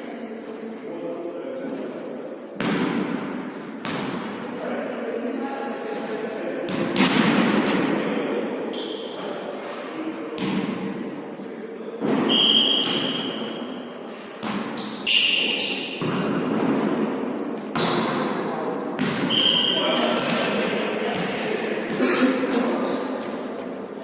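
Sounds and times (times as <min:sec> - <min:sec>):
volleyball hits echoing in a hall: 0:01.8 - 0:24.0.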